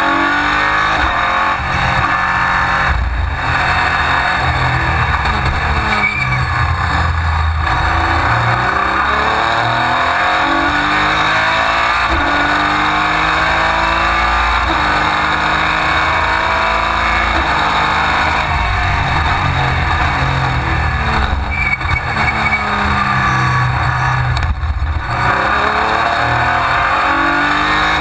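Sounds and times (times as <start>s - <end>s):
racing car engine: 0.0s - 28.0s.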